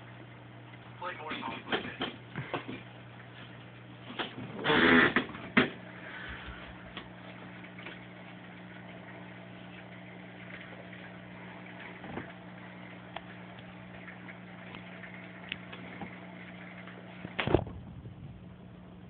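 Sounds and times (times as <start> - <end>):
aquarium pump humming: 0.0 - 19.0.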